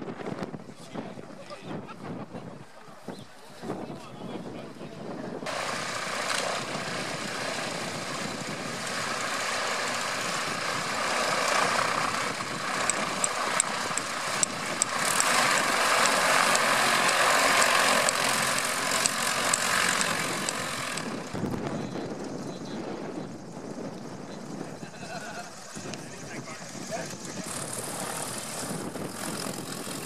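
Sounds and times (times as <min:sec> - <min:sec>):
propeller plane engine running: 0:05.1 - 0:30.0.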